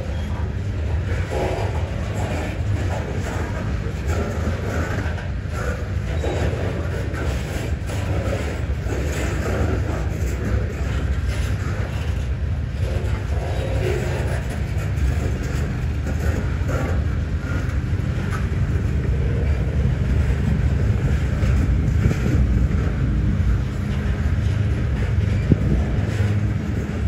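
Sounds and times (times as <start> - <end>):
rail clicks: 0.0 - 27.0
steel wheels rumbling on rail: 0.0 - 27.0.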